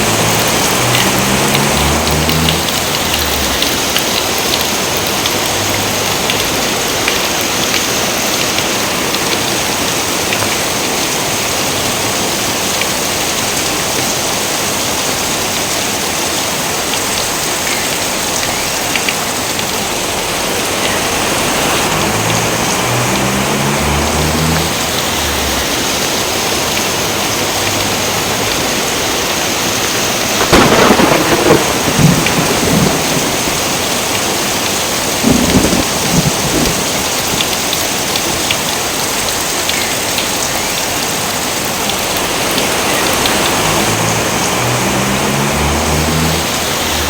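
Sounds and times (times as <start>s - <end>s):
raindrops ticking: 0.0s - 47.0s
steady rain hiss: 0.0s - 47.0s.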